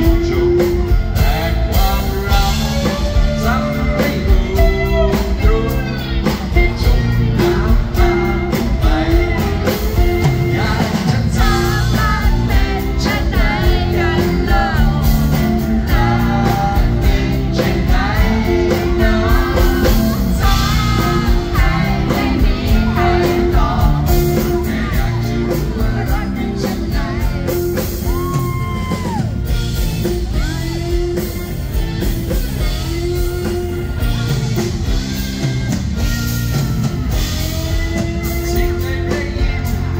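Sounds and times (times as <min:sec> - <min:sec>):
male vocalist singing: 0:00.0 - 0:34.7, 0:37.2 - 0:39.9
drum kit beat: 0:00.0 - 0:39.9
electric guitar: 0:00.0 - 0:39.9.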